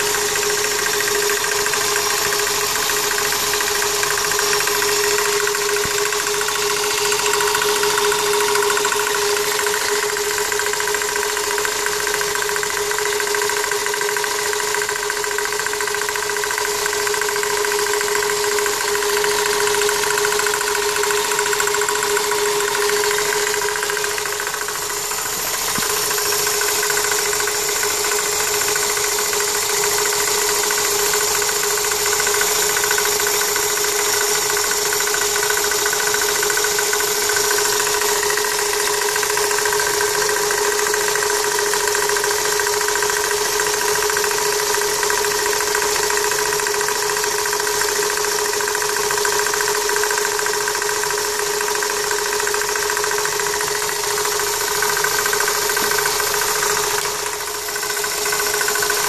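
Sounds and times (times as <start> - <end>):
car engine running: 0.0 - 59.0
knocking from engine belt: 0.0 - 59.0.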